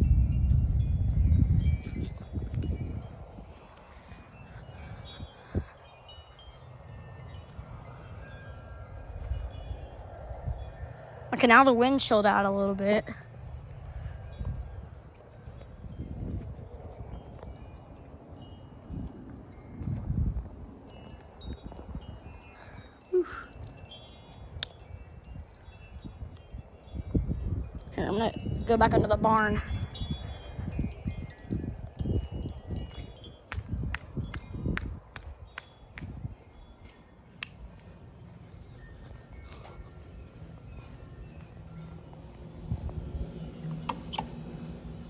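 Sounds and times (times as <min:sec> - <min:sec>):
wind chime ringing: 0:00.0 - 0:20.3, 0:20.9 - 0:45.0
low wind rumble: 0:00.0 - 0:45.0.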